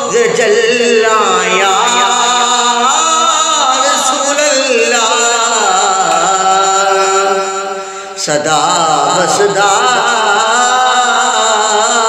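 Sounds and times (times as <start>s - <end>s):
boy singing devotional song: 0.0s - 12.0s.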